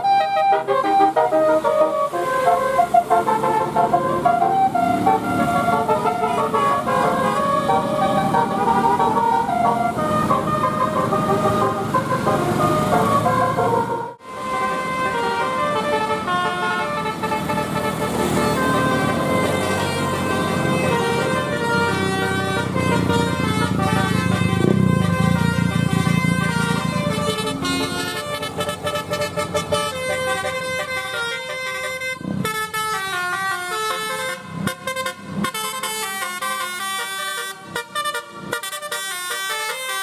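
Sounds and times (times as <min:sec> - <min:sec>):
bus musical air horns: 0:00.0 - 0:40.0.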